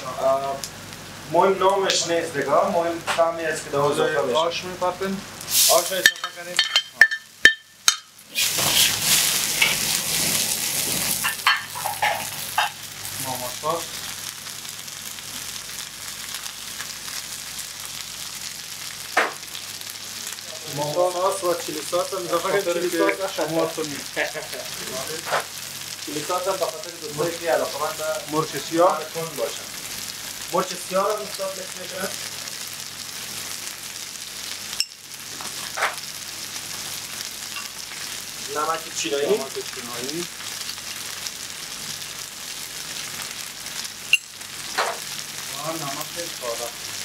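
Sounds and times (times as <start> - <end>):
noodles sizzling in a wok: 0.0 - 47.0.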